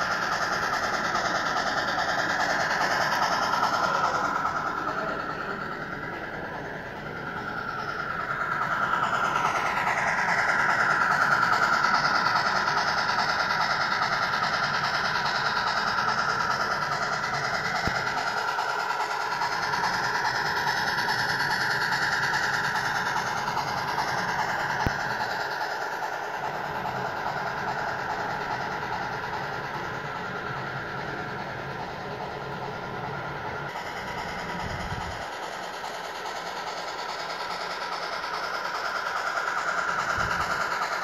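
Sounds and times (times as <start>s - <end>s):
model train rolling: 0.0s - 41.0s.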